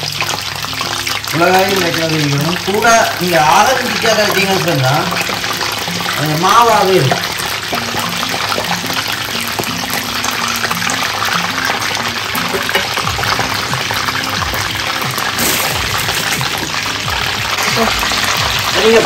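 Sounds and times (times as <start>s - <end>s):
faint background music: 0.0s - 19.0s
hot oil sizzling: 0.0s - 19.0s.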